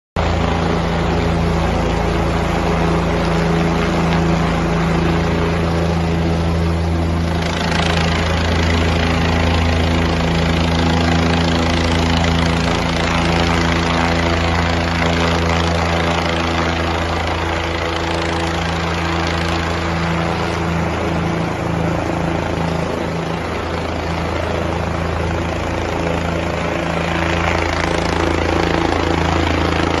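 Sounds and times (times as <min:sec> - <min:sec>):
helicopter flying close by: 0:00.2 - 0:30.0.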